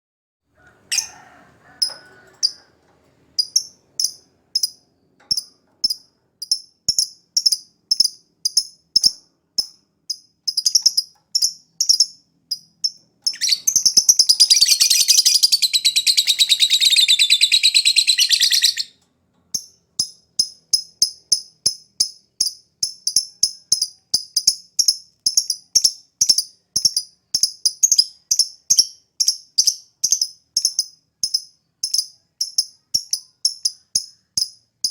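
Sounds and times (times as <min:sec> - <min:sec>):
lovebird chirping: 0:03.4 - 0:09.2, 0:10.1 - 0:18.9, 0:19.6 - 0:34.9.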